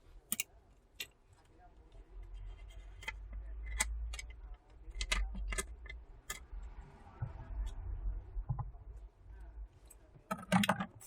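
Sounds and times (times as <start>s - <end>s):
low rumble of handling noise: 0.0s - 10.3s.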